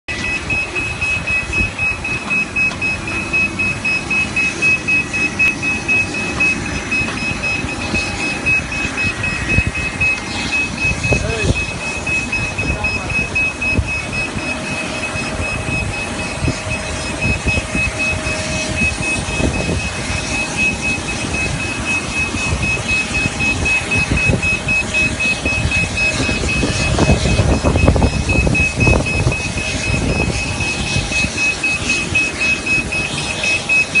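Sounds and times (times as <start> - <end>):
high-pitched warning beeper: 0.1 - 34.0.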